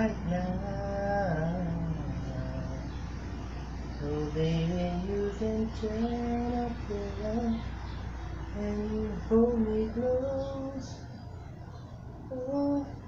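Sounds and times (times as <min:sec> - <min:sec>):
person singing slow melody: 0:00.0 - 0:03.3, 0:03.9 - 0:11.4, 0:12.1 - 0:13.0.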